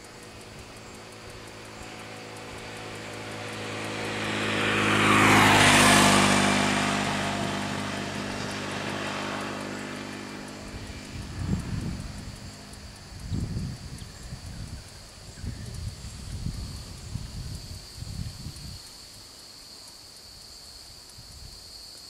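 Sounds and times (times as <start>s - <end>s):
motor vehicle passing: 0.0s - 18.8s.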